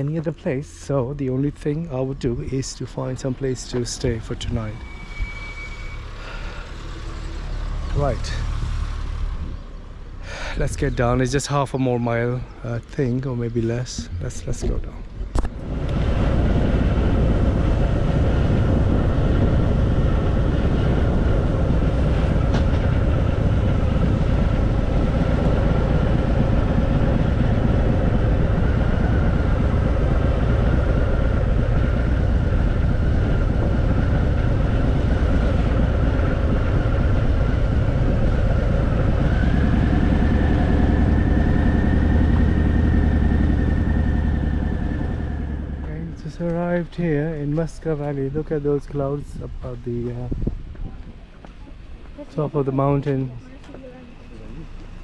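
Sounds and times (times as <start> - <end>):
high whine: 0.0 - 8.4, 10.6 - 50.6.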